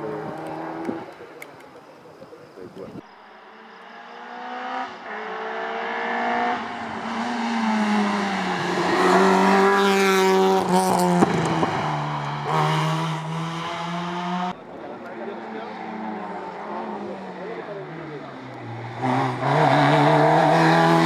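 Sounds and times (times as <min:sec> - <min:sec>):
rally car engine revving: 0:03.2 - 0:21.0.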